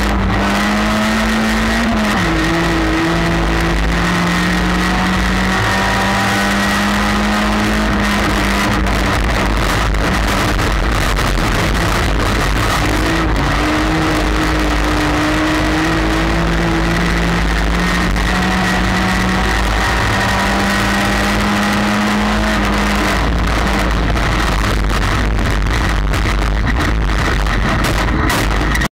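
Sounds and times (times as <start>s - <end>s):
race car engine revving: 0.0s - 28.9s.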